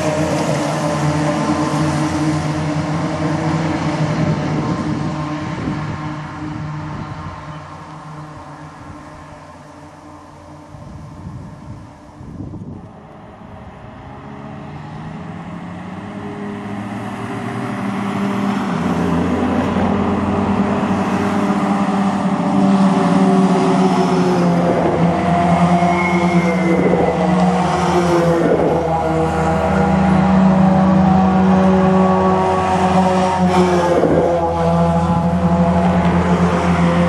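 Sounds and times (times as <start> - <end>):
vehicle engines approaching: 0.0 - 37.0.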